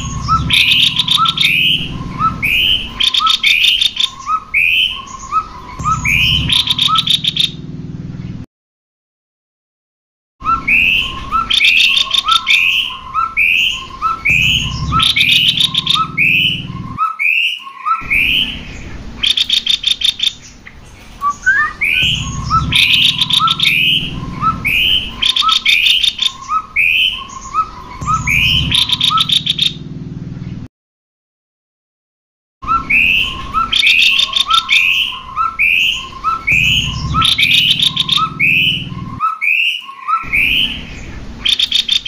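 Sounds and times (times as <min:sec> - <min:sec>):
bird singing whistles and trills: 0:00.0 - 0:07.6, 0:10.4 - 0:29.8, 0:32.6 - 0:42.0.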